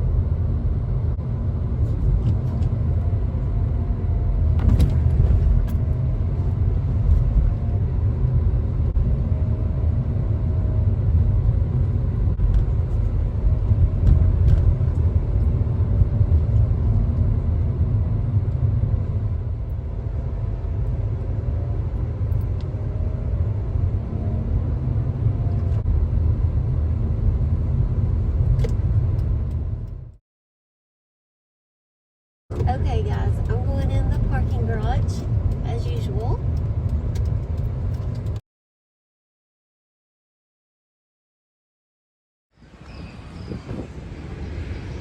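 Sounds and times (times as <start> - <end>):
car road and engine rumble: 0.0 - 30.2, 32.5 - 38.4, 42.6 - 45.0.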